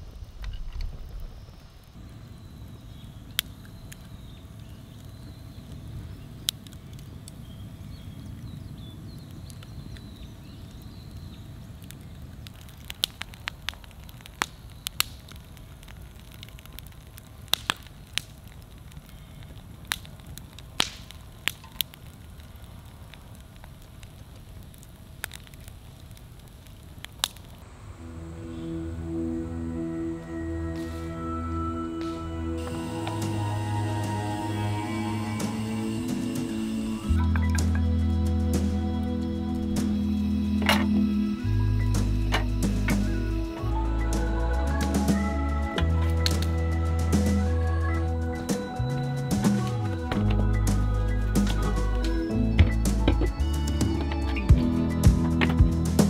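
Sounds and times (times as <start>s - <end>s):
campfire burning and crackling: 0.0s - 56.0s.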